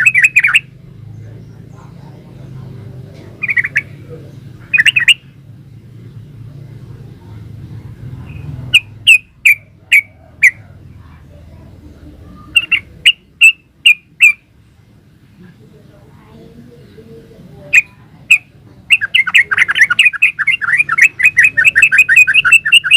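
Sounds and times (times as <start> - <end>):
bird chirping: 0.0 - 15.2, 16.3 - 22.9.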